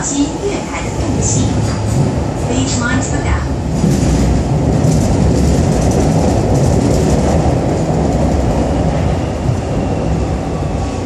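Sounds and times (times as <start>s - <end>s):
train rumbling on rails in tunnel: 0.0s - 11.0s.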